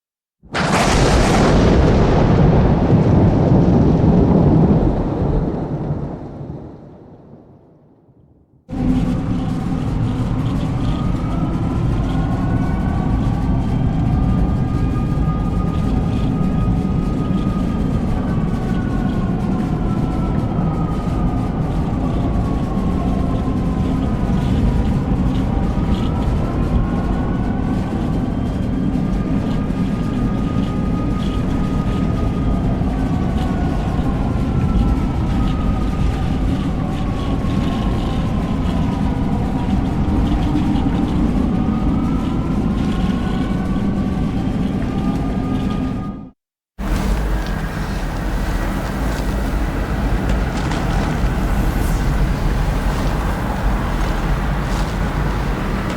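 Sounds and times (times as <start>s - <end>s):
low roar of wind: 0.5s - 55.9s
warning siren wailing: 8.7s - 55.9s.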